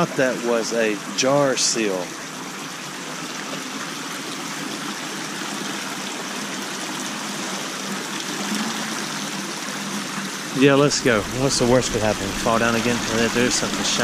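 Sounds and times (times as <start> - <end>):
water rushing over concrete ledge: 0.0 - 14.0.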